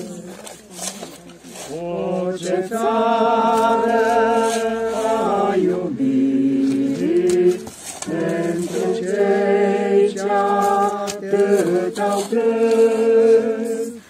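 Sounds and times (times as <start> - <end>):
voices singing a hymn: 0.0 - 14.0.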